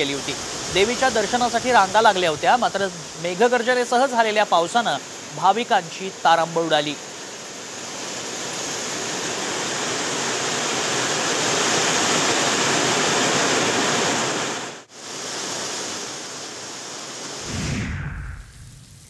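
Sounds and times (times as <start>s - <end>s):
heavy rain pouring: 0.0s - 17.6s.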